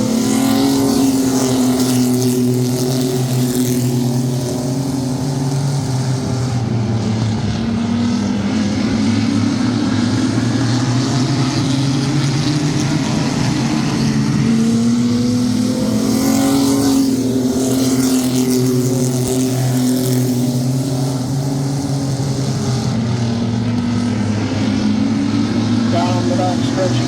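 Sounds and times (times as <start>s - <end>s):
race truck engines revving: 0.0s - 27.0s.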